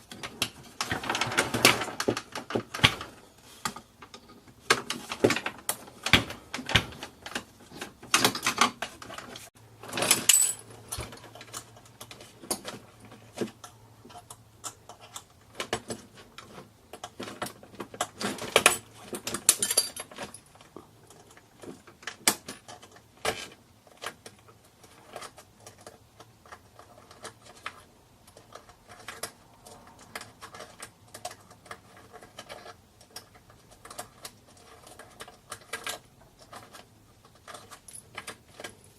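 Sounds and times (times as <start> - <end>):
clatter of parts: 0.0 - 38.9
plastic and metal parts rattling: 0.0 - 38.9.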